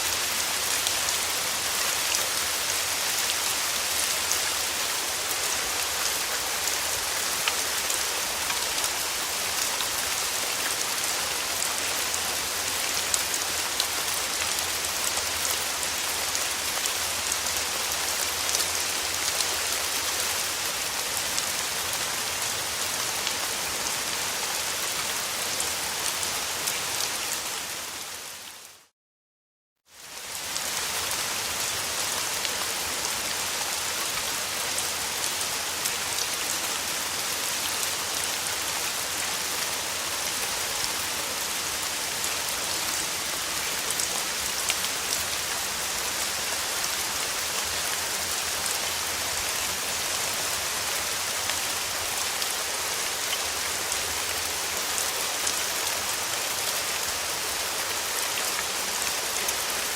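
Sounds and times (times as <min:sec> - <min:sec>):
steady rain hiss: 0:00.0 - 0:28.9, 0:29.9 - 0:59.9.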